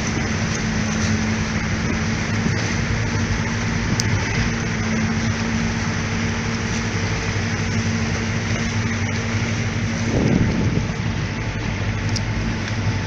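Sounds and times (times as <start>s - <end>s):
constant rushing noise: 0.0s - 13.0s
motorboat engine running: 0.0s - 13.0s.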